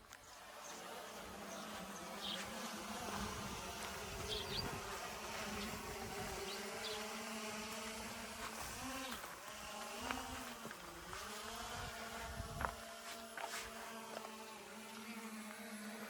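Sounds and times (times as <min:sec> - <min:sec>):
insect buzzing: 0:00.2 - 0:16.0.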